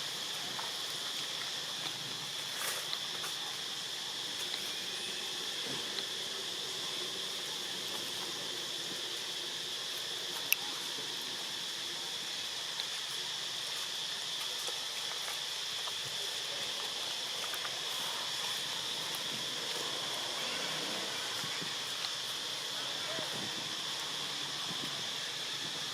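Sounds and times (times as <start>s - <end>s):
insect buzzing: 0.0s - 25.9s.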